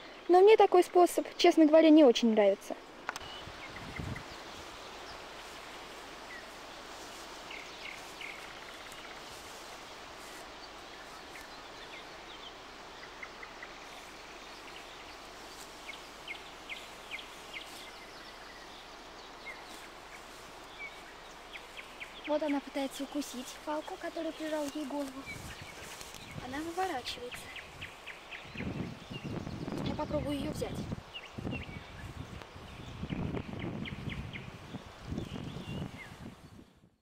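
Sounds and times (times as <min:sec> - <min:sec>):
outdoor background hiss: 0:00.0 - 0:37.0.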